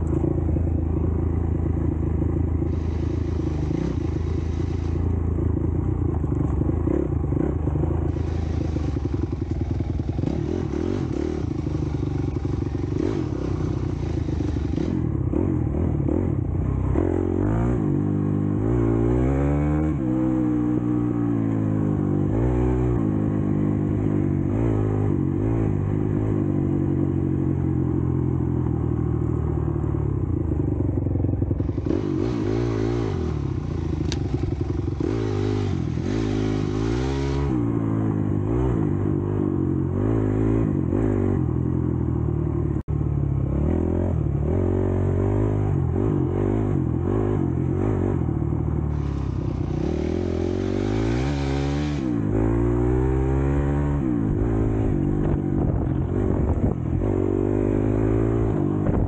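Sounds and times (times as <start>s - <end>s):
dirt bike engine revving: 2.6s - 5.7s, 6.6s - 26.4s, 31.6s - 41.7s, 43.4s - 59.0s.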